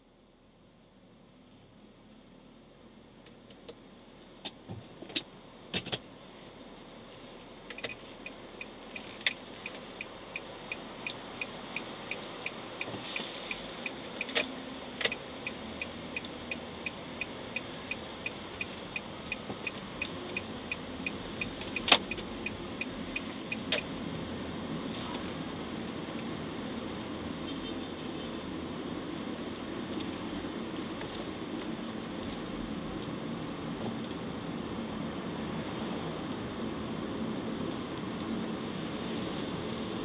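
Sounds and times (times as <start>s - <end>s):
car engine and road noise: 0.0s - 40.0s
turn signal ticking: 7.6s - 40.0s.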